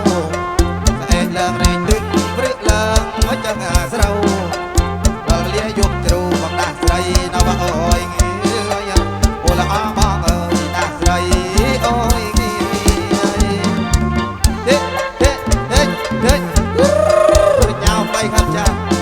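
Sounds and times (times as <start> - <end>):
bass line: 0.0 - 19.0
drum beat: 0.0 - 19.0
sliding melodic lead: 0.0 - 19.0.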